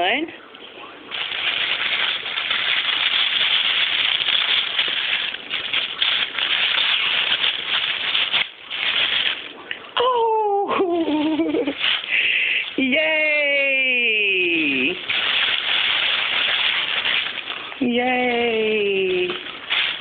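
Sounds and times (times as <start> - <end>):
tissue paper rustling: 1.1 - 9.7, 10.8 - 20.0.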